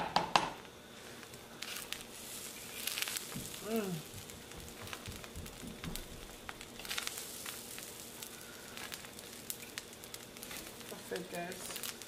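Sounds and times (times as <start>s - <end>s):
spatula stirring rice in pot: 1.0s - 12.0s
sizzling and crackling ticks: 1.2s - 12.0s.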